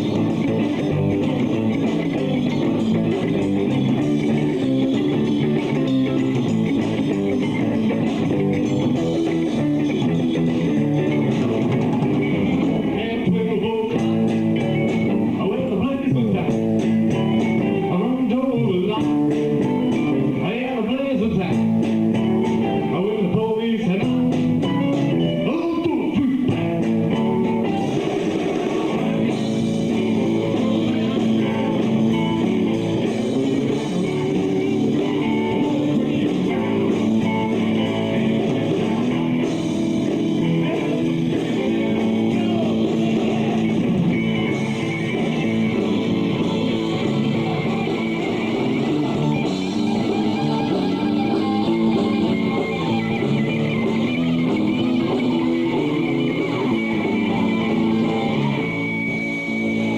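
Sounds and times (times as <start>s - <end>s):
electric guitars: 0.0s - 59.9s
live blues-rock band playing: 0.0s - 59.9s.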